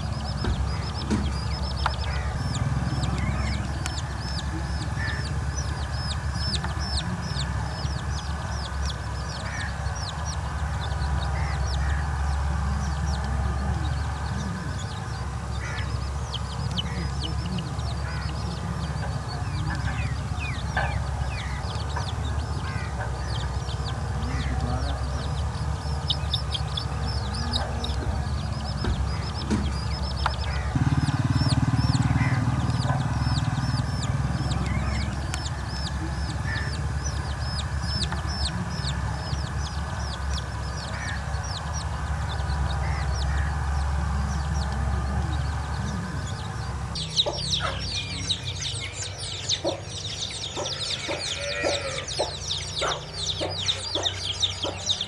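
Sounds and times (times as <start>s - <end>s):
steady low rumble: 0.0s - 51.2s
chicks peeping: 0.0s - 55.0s
hen clucking: 0.0s - 55.0s.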